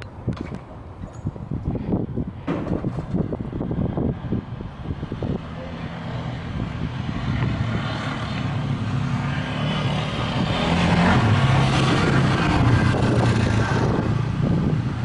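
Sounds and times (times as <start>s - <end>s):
vehicle engine approaching: 2.8s - 15.0s.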